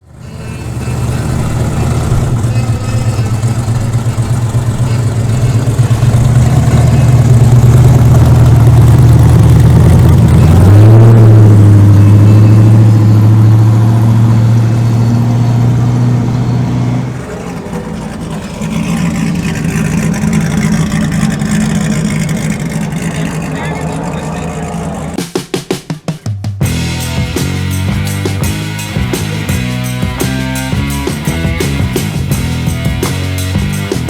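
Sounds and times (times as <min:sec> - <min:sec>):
car engine revving: 0:00.0 - 0:25.4, 0:26.6 - 0:34.0.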